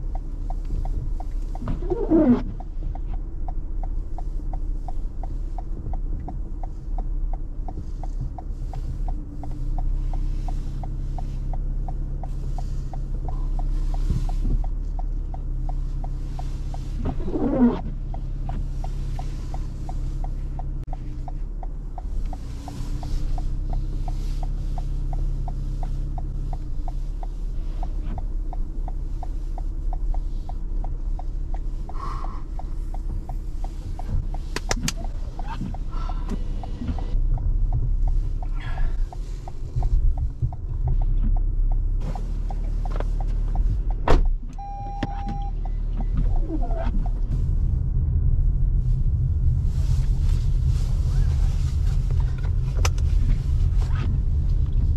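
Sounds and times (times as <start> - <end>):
faint even ticking: 0.0 - 47.3
car cabin drone: 0.0 - 54.9.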